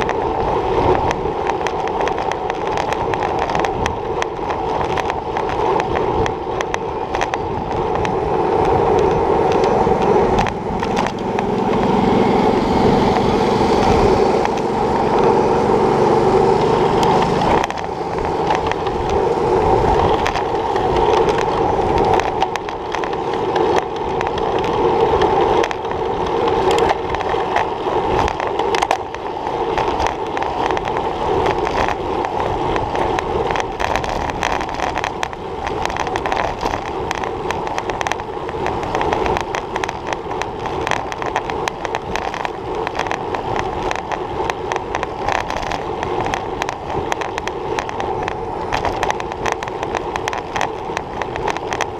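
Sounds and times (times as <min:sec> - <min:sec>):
bicycle rattling over bumps: 0:00.0 - 0:51.9
bicycle tyre road noise: 0:00.0 - 0:51.9.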